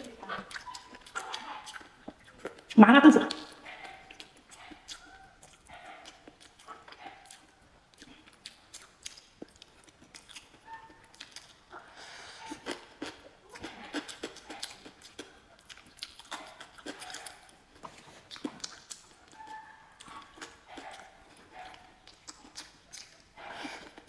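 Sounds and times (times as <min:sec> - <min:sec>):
person chewing with wet smacks: 0:00.0 - 0:24.0.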